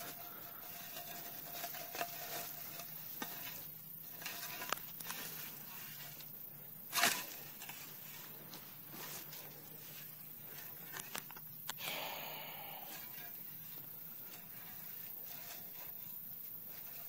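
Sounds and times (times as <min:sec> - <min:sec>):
rattlesnake rattle buzzing: 0:00.0 - 0:17.0.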